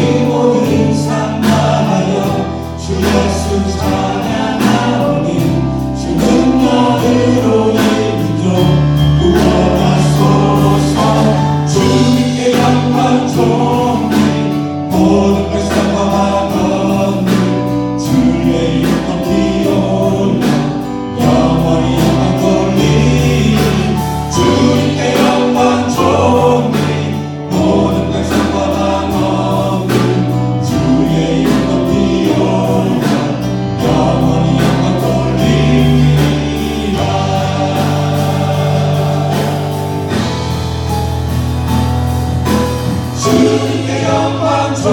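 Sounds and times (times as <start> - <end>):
band accompaniment: 0.0 - 44.9
deep bass line: 0.0 - 44.9
group singing worship song: 0.0 - 44.9.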